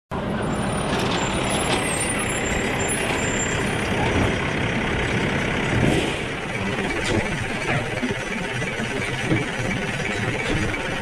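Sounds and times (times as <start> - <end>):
garbage truck diesel engine running: 0.1 - 11.0.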